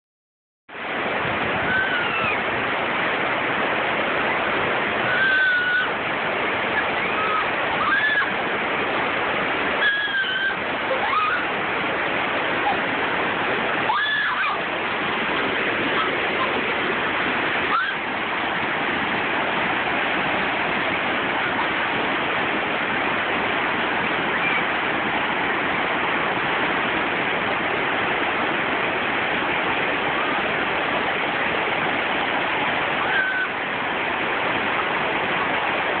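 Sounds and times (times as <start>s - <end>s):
rush of churning water: 0.7s - 36.0s.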